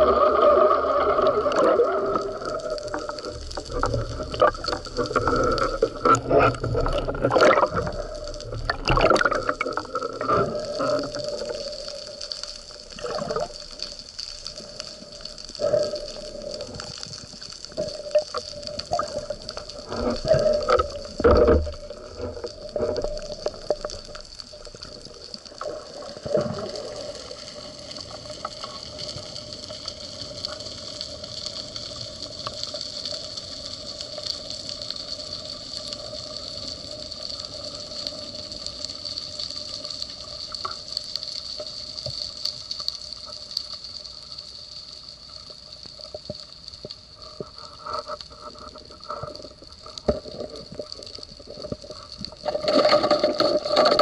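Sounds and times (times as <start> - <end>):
faint underwater clicks: 0.0 - 54.0
underwater water rushing: 0.0 - 54.0.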